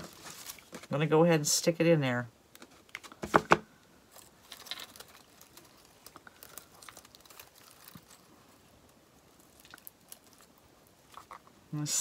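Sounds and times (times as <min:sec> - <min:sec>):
greenery crinkling and rustling: 0:00.0 - 0:01.8, 0:03.8 - 0:12.0.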